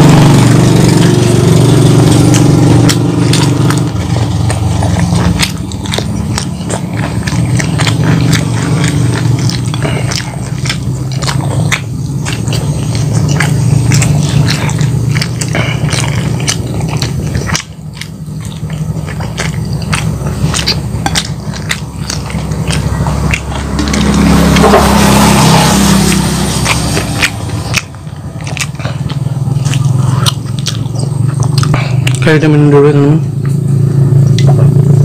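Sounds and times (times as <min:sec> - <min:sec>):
crunchy chewing: 0:00.0 - 0:35.0
steady low hum: 0:00.0 - 0:35.0
wet mouth clicks: 0:00.0 - 0:35.0.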